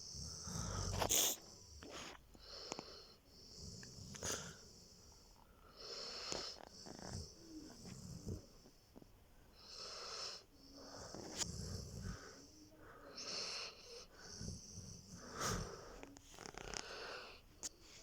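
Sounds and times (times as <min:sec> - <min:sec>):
dog snoring: 0:00.0 - 0:08.7, 0:09.5 - 0:18.0.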